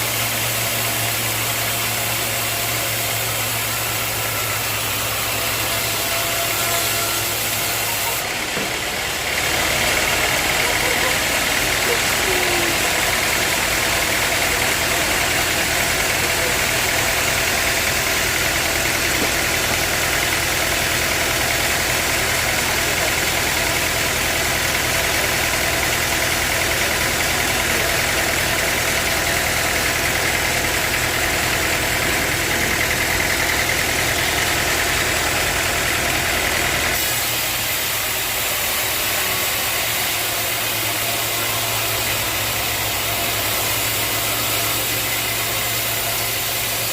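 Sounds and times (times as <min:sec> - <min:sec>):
saw cutting log: 0:00.0 - 0:46.9
sawmill machine hum: 0:00.0 - 0:46.9.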